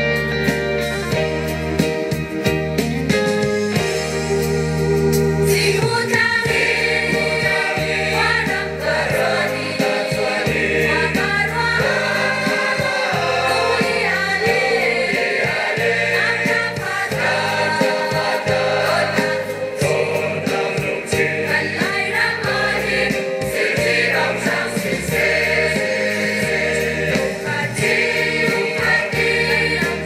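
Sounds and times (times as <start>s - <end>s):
light regular beat: 0.0s - 30.0s
steady bass line: 0.0s - 30.0s
choir singing gospel song: 4.0s - 30.0s.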